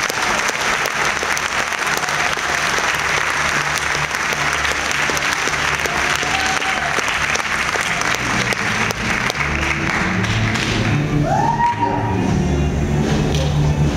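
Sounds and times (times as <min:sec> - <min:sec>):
audience applauding: 0:00.0 - 0:12.0
music: 0:00.0 - 0:13.9.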